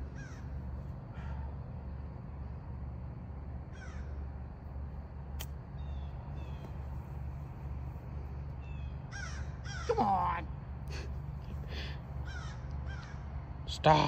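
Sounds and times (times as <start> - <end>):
birds calling: 0.0 - 2.3, 3.6 - 4.5, 5.4 - 13.6
steady low rumble: 0.0 - 14.0.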